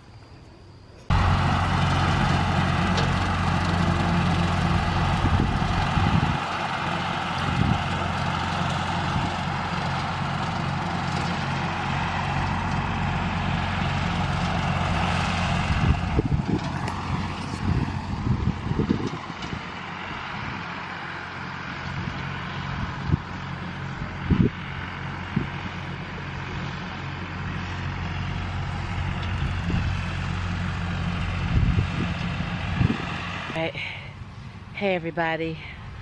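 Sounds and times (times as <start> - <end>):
tractor engine running: 1.0 - 36.0.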